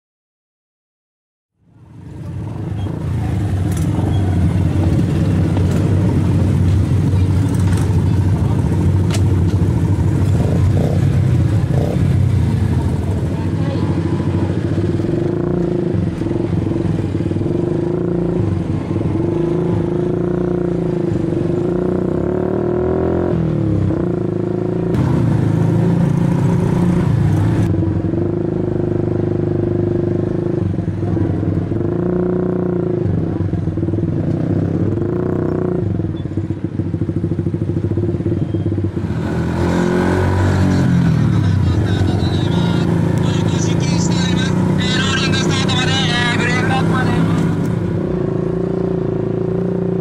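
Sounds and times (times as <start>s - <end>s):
motorcycle engines at low revs: 1.6s - 50.0s.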